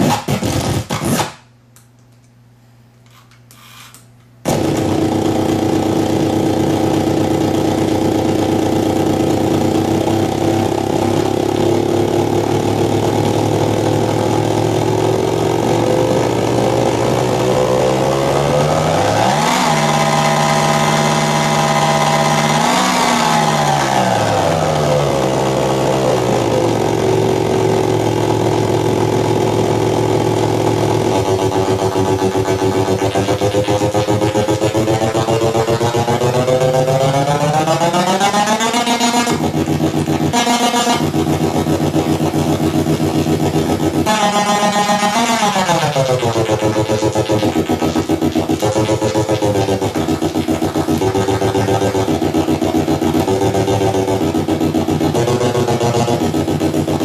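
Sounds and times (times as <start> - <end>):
buzzing electronic drone: 4.4 - 57.0.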